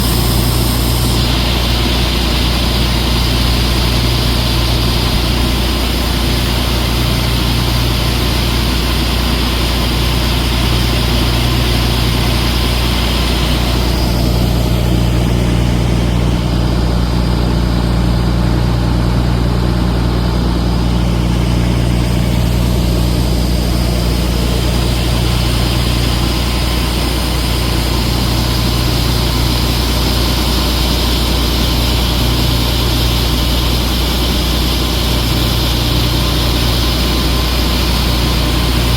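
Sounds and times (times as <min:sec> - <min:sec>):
engine hiss: 0:00.0 - 0:38.9
heavy diesel engine running: 0:00.0 - 0:38.9.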